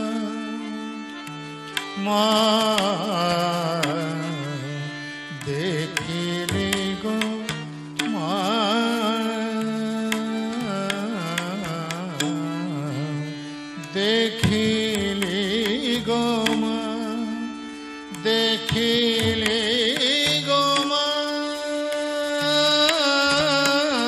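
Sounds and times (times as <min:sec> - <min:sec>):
man singing ornamented phrases: 0:00.0 - 0:01.0, 0:02.0 - 0:24.0
harmonium held notes: 0:00.0 - 0:24.0.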